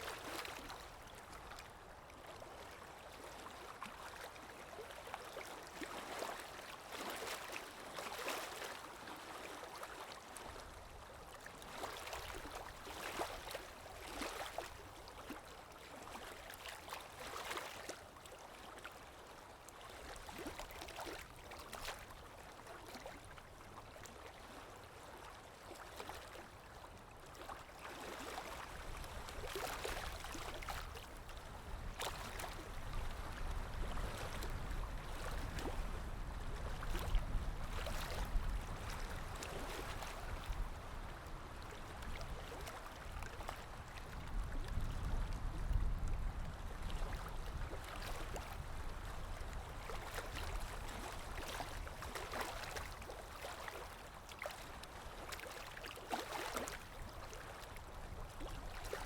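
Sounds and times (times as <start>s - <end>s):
water lapping against shore: 0.0s - 59.0s.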